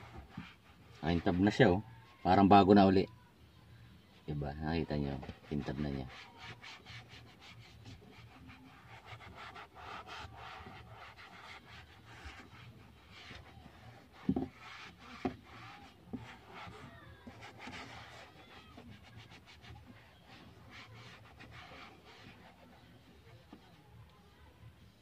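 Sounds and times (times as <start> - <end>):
sponge rubbing plastic dashboard: 0.0 - 1.8, 4.9 - 24.1.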